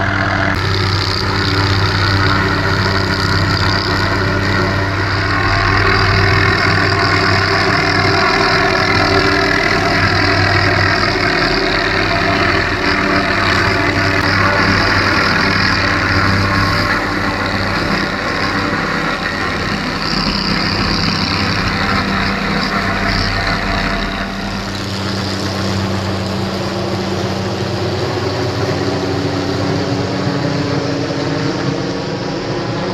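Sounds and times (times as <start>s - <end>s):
helicopter turbine and rotor: 0.0s - 32.9s.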